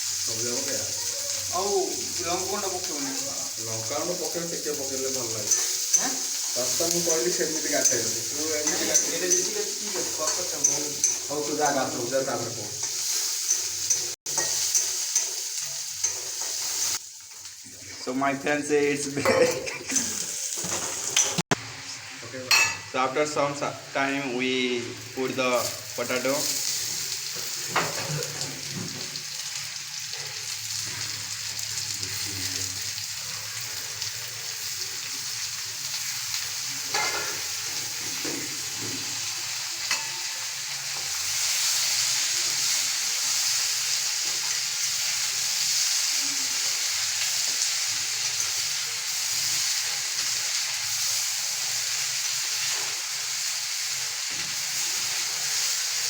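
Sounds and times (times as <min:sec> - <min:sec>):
potatoes sizzling in hot oil: 0:00.0 - 0:56.0.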